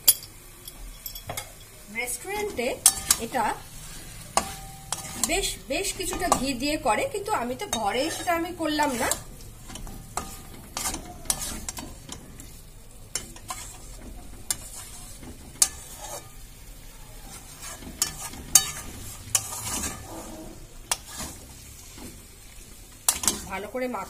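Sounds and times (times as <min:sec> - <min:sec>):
soft sizzle: 0:00.0 - 0:24.0
utensil scraping metal pan: 0:02.2 - 0:16.6, 0:17.2 - 0:21.5, 0:23.1 - 0:23.6.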